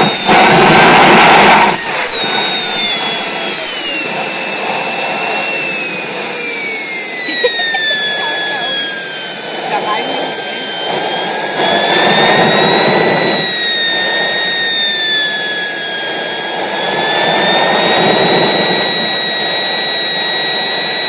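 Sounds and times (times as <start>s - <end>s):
jet turbine engine whine: 0.0s - 21.0s.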